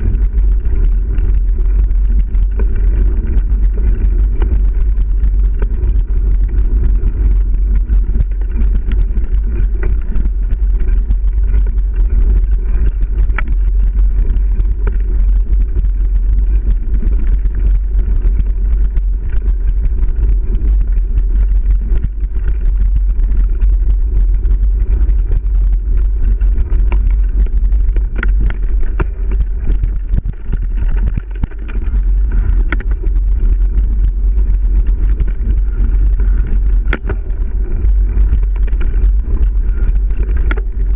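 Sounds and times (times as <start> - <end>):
bike rattling and clicking: 0.0 - 40.9
tyres rumbling on dirt: 0.0 - 40.9
wind on microphone: 0.0 - 40.9.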